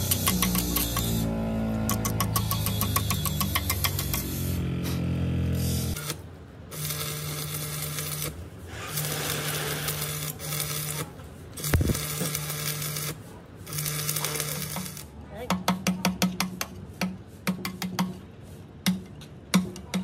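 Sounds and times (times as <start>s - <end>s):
workshop machinery hum: 0.0s - 20.0s.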